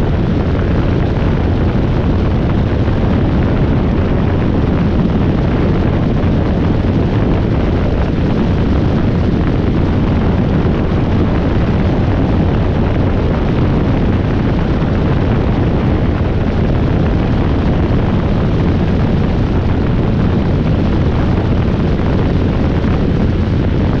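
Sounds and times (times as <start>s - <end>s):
helicopter rotor and engine drone: 0.0s - 24.0s
wind rush on microphone: 0.0s - 24.0s.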